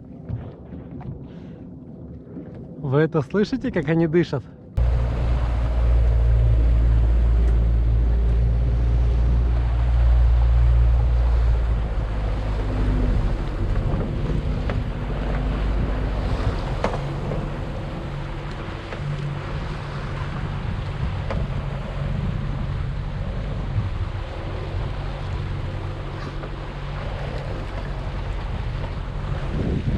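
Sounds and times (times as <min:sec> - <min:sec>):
water slapping against hull: 0:00.0 - 0:04.0, 0:04.8 - 0:29.9
motorboat engine idling: 0:04.8 - 0:29.9
wind on microphone: 0:04.8 - 0:29.9.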